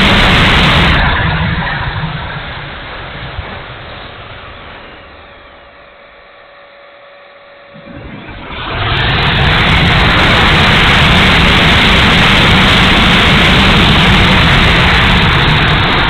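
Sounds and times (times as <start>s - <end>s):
electric ducted fan rushing: 0.0s - 16.0s
faint steady whine: 0.0s - 16.0s.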